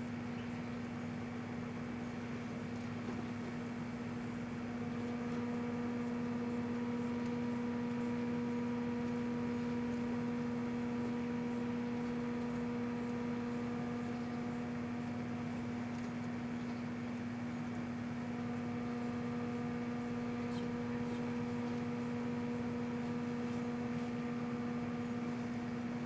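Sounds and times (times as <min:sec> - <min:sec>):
fan whir: 0:00.0 - 0:26.0
microwave oven hum: 0:00.0 - 0:26.0.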